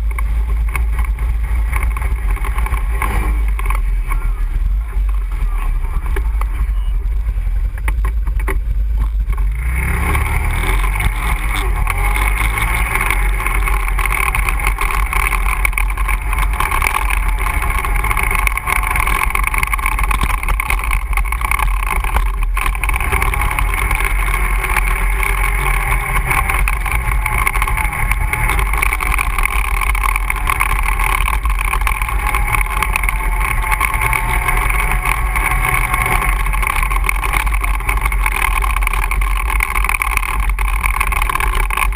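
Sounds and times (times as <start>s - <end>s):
atv engine running: 0.0s - 41.9s
heavy low rumble: 0.0s - 41.9s.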